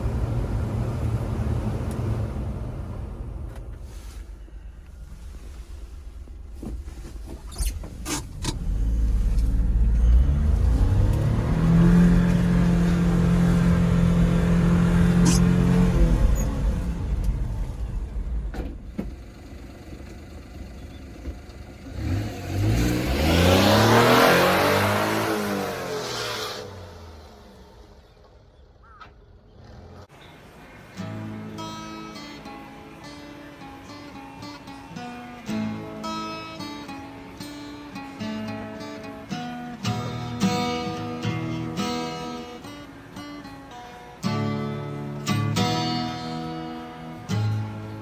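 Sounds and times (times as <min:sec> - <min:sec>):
small truck engine revving: 0:00.0 - 0:03.6, 0:07.4 - 0:48.0.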